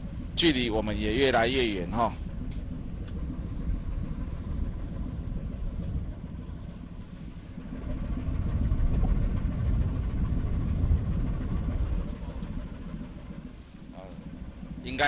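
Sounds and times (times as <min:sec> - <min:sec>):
low rumbling: 0:00.0 - 0:15.0.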